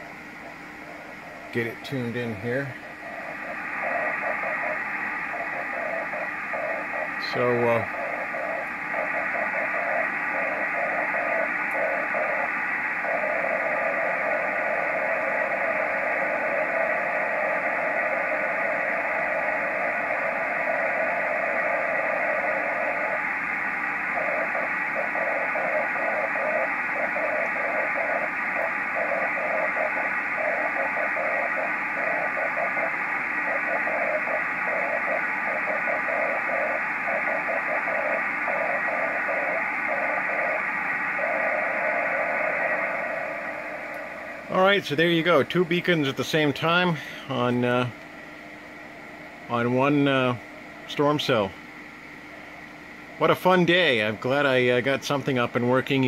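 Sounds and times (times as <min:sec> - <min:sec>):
radio receiver hiss: 0:00.0 - 0:56.0
morse code radio tone: 0:00.8 - 0:48.0.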